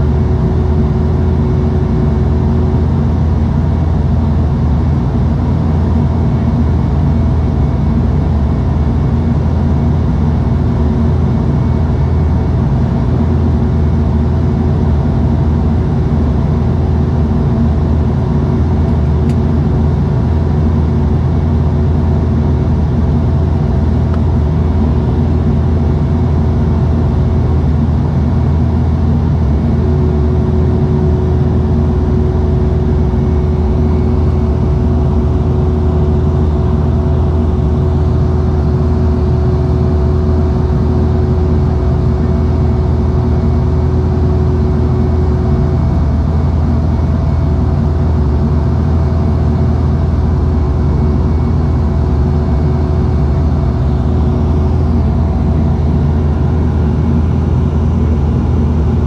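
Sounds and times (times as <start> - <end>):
steady high engine tones: 0.0 - 59.0
turboprop cabin drone: 0.0 - 59.0.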